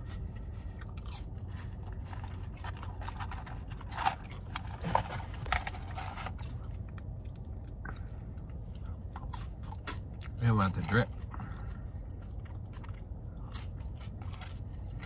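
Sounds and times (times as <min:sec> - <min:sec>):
chewing fries: 0:00.0 - 0:15.0
low hum: 0:00.0 - 0:15.0.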